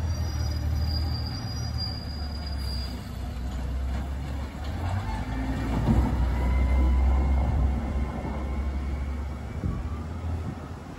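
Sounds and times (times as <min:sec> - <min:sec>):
garbage truck engine rumbling: 0:00.0 - 0:10.8.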